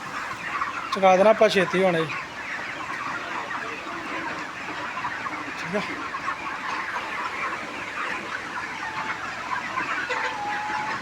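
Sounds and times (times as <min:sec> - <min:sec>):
chickens clucking: 0:00.0 - 0:11.0
drawn-out chicken call: 0:00.0 - 0:11.0.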